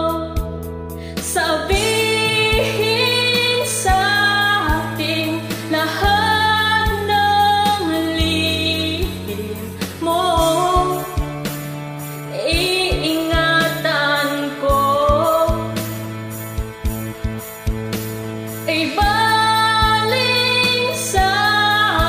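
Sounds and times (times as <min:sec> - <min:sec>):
woman singing pop ballad: 0:00.0 - 0:16.3, 0:18.6 - 0:22.0
karaoke backing track: 0:00.0 - 0:22.0.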